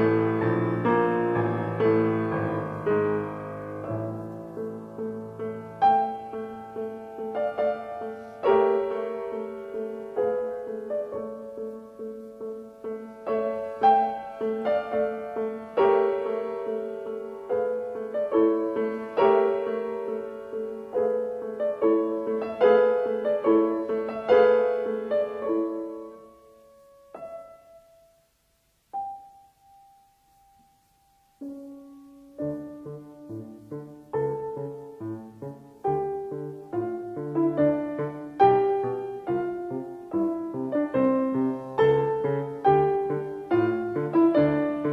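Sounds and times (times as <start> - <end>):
slow piano music: 0.0 - 44.9.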